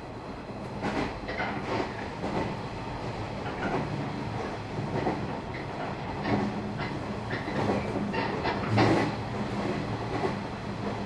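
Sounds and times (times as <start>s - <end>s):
train running rumble and hum: 0.0s - 11.0s
wheels clacking over rail joints: 0.8s - 2.5s, 3.4s - 11.0s.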